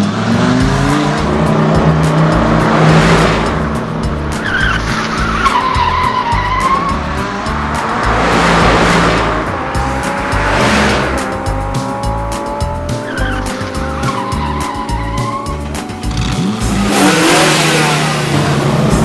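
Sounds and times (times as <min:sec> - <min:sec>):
tyre skid whooshes: 0:00.0 - 0:15.5
background music with bass: 0:00.0 - 0:19.0
cartoon engine running: 0:00.0 - 0:19.0.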